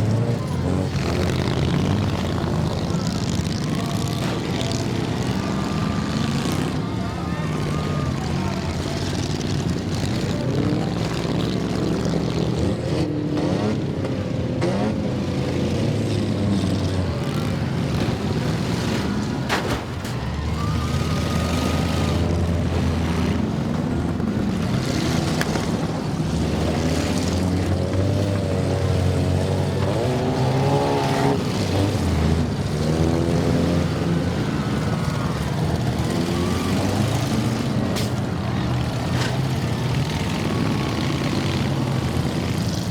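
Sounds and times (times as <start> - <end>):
car engines revving hard: 0.0 - 42.9.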